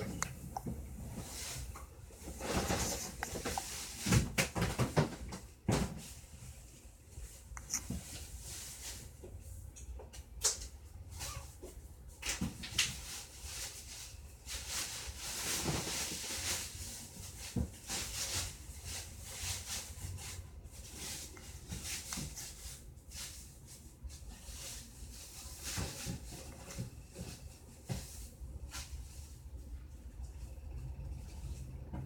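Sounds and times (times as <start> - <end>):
rustling and handling noise: 0.0 - 32.0.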